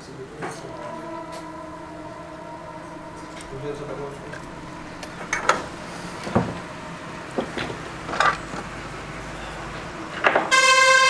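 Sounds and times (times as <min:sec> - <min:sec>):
loud steady buzzing tone: 0:00.4 - 0:11.0.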